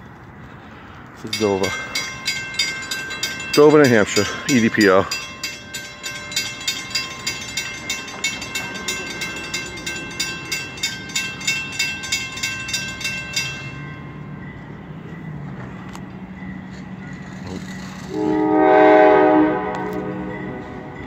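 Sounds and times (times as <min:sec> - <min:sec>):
crossing warning bell ringing: 0:01.0 - 0:21.0.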